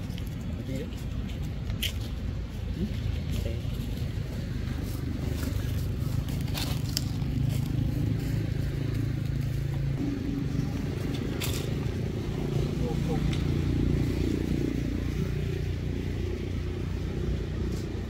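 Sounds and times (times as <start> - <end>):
distant engine rumbling: 0.0 - 18.0.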